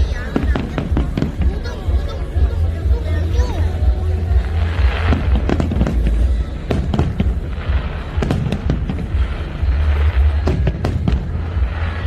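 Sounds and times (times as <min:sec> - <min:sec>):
deep rumble: 0:00.0 - 0:12.0
fireworks bangs: 0:00.0 - 0:12.0.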